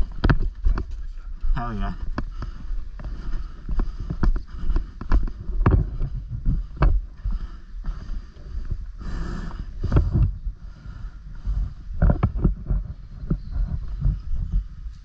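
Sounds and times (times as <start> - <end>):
wind rumble: 0.0 - 15.0.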